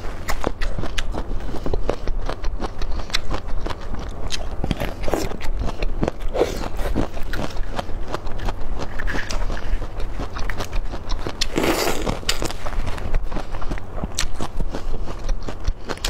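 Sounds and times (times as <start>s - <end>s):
chewing crisp food crunches: 0.0s - 16.0s.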